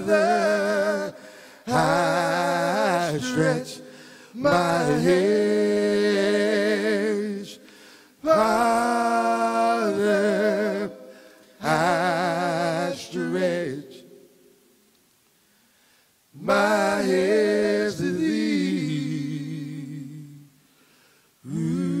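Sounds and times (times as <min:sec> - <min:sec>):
men singing a cappella: 0:00.0 - 0:14.2, 0:16.4 - 0:20.5, 0:21.4 - 0:22.0.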